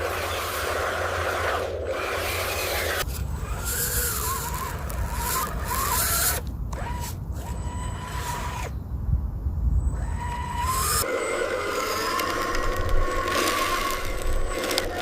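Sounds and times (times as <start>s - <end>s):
machinery rumble with motor whine: 0.0s - 15.0s.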